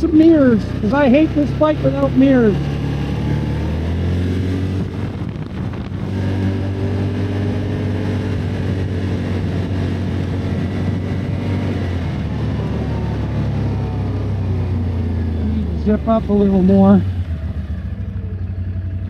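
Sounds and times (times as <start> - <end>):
wind buffeting microphone: 0.0 - 17.1
atv engine running: 0.0 - 19.0.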